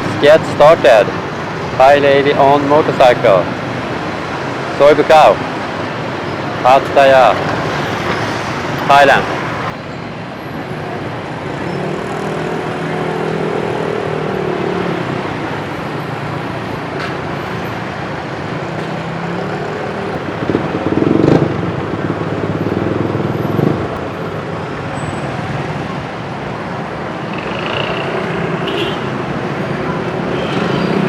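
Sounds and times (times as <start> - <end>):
motorbikes passing: 0.0 - 31.0
street traffic: 0.0 - 31.0.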